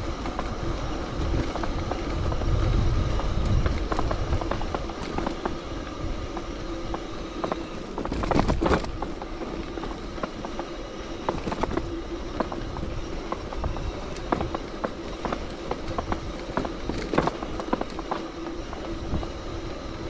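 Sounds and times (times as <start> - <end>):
bicycle tyre noise: 0.0 - 20.0
bike clicks and rattles: 0.0 - 20.0
wind rumble on microphone: 0.0 - 20.0.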